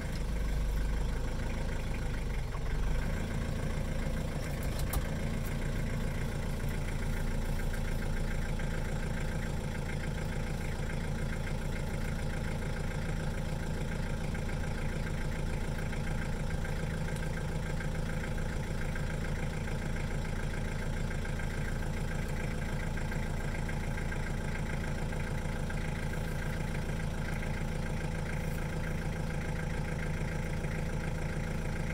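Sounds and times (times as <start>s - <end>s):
vehicle engine idling: 0.0s - 31.9s.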